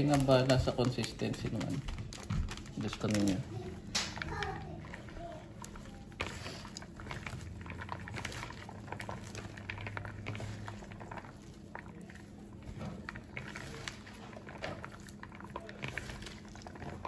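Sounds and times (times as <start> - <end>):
hands squishing wet batter: 0.0 - 17.0
low steady hum: 0.0 - 17.0.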